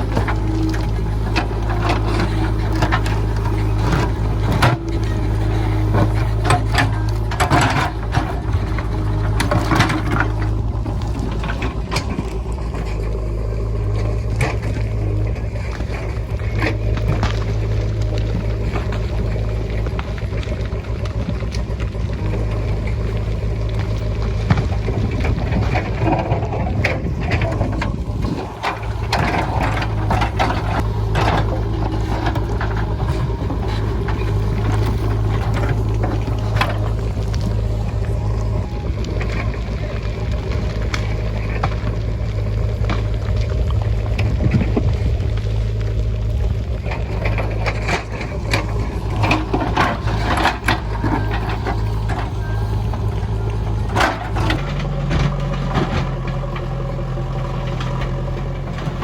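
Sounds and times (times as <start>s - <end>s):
diesel engine running under load: 0.0s - 59.0s
rocks and stones clattering: 0.0s - 59.0s.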